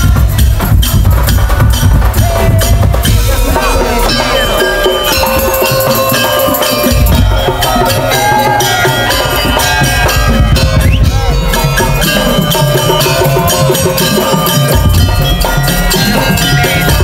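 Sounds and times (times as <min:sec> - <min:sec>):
percussion troupe drumming: 0:00.0 - 0:17.0
wavering melody: 0:00.0 - 0:17.0.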